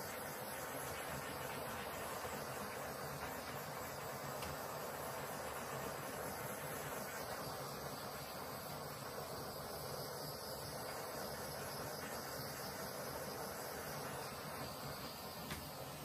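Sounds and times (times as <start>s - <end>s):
handheld torch flame hissing: 0.0s - 16.0s.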